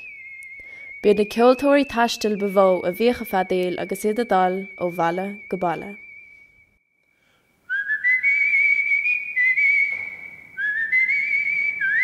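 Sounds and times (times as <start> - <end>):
man whistling slow air: 0.0 - 12.0.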